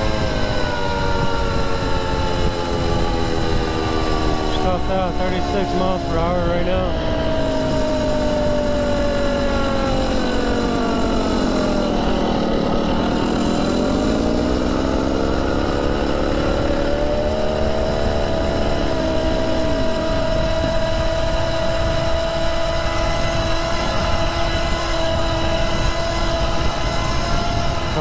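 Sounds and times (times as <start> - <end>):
bicycle motor drive whining: 0.0 - 28.0.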